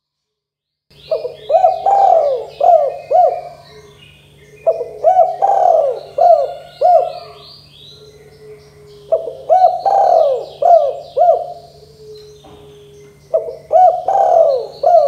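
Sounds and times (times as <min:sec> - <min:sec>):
small birds chirping: 0:00.9 - 0:15.0
dove cooing: 0:01.0 - 0:15.0.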